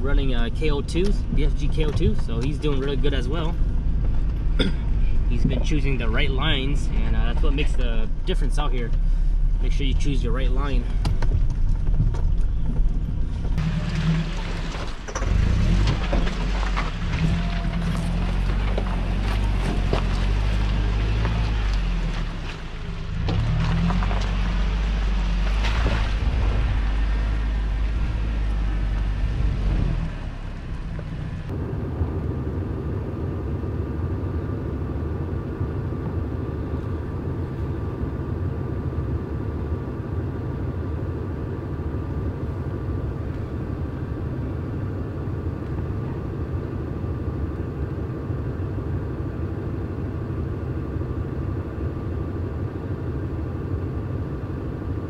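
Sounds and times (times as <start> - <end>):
engine drone with high hum: 0.0 - 55.0
engine rumbling at low speed: 0.0 - 55.0.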